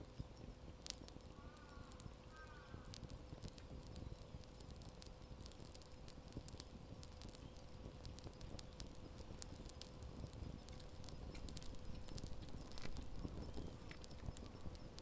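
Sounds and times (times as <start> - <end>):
campfire crackling: 0.0 - 15.0
faint steady hum: 0.0 - 15.0
low steady rumble: 0.0 - 15.0.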